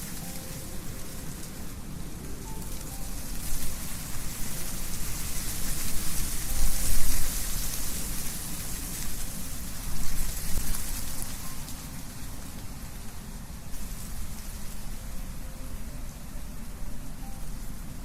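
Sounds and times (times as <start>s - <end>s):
leaves rustling: 0.0s - 18.0s
low wind rumble: 0.0s - 18.0s
wind blowing through trees: 0.0s - 18.0s.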